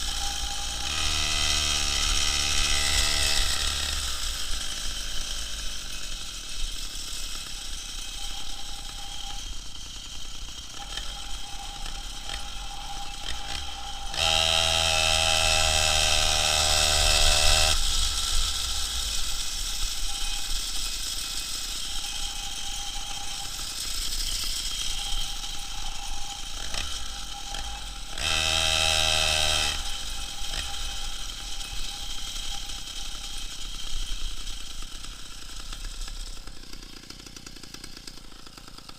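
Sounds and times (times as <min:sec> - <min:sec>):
two-stroke engine idling and revving: 0:00.0 - 0:38.9.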